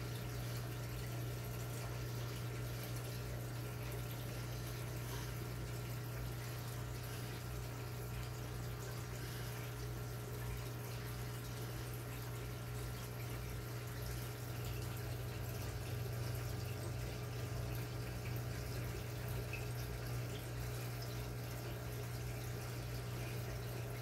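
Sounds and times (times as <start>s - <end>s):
low pump hum: 0.0s - 24.0s
water trickling into tank: 0.0s - 24.0s.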